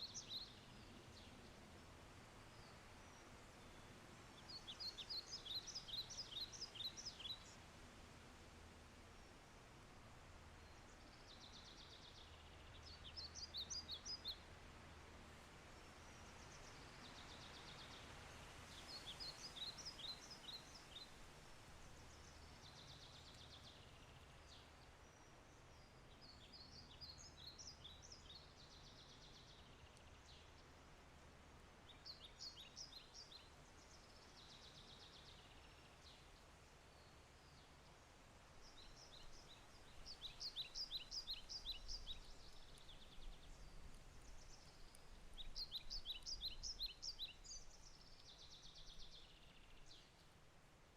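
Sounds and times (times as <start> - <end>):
gentle rain hiss: 0.0 - 50.9
songbird singing: 0.0 - 50.9.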